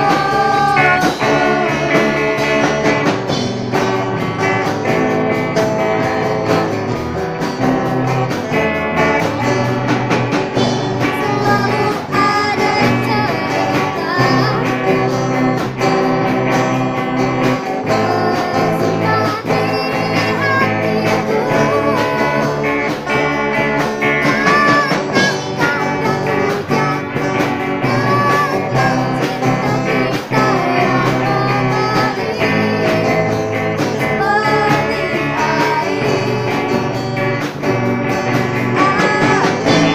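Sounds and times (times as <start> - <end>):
girls singing into microphones: 0.0 - 3.3, 10.9 - 39.9
bass guitar: 0.0 - 39.9
drums: 0.0 - 39.9
electric guitars: 0.0 - 39.9
keyboard: 0.0 - 39.9.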